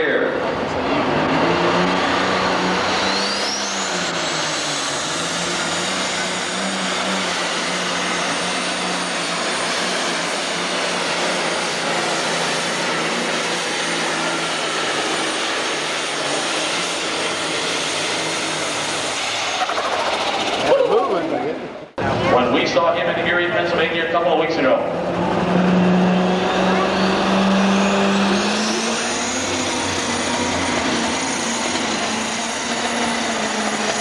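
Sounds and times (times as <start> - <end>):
high engine whine: 0.0 - 34.0
tractor diesel engine under load: 0.0 - 34.0.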